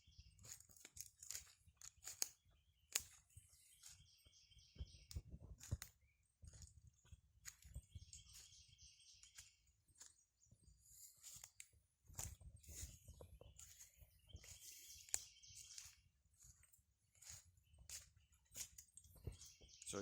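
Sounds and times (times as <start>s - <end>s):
footsteps through wet leaf litter: 0.3s - 4.2s, 7.4s - 20.0s
faint high chirping: 2.1s - 20.0s.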